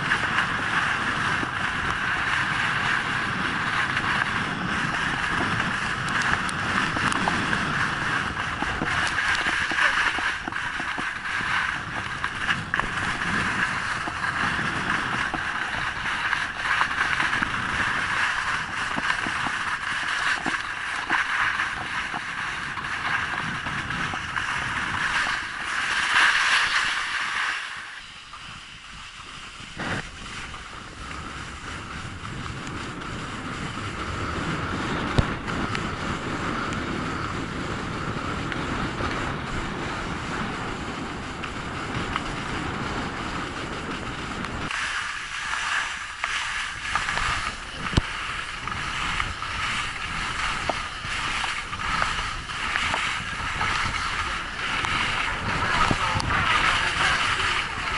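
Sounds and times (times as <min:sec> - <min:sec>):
skis scraping on snow: 0:00.0 - 0:57.9
wind rushing over microphone: 0:00.0 - 0:57.9.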